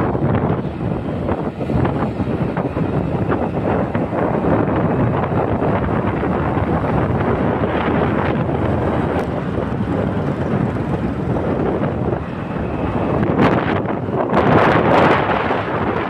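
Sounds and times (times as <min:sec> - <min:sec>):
traffic rumble: 0:00.0 - 0:16.0
wind buffeting microphone: 0:00.0 - 0:16.0.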